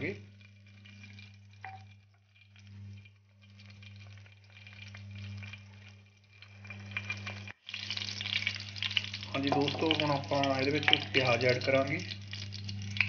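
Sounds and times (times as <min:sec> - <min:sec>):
seeds sizzling in hot oil: 0:00.0 - 0:13.0
steady low hum: 0:00.0 - 0:13.0.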